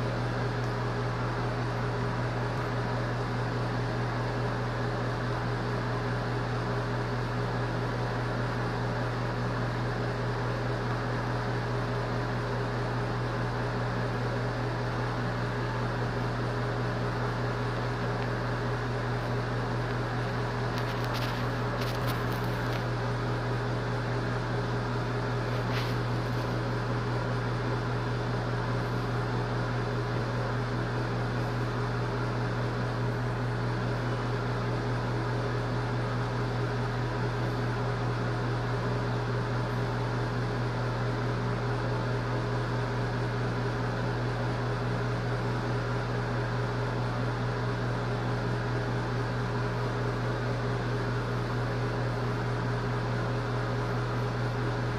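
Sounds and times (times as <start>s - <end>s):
mechanical hum with hiss: 0.0s - 54.9s.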